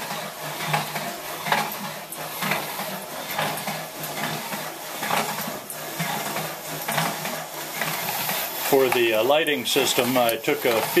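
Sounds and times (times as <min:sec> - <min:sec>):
pump mechanical clack: 0:00.0 - 0:11.0.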